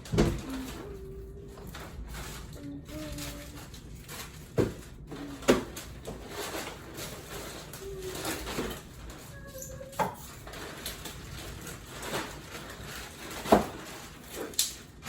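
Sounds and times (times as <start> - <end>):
faint clatter: 0.0 - 15.0.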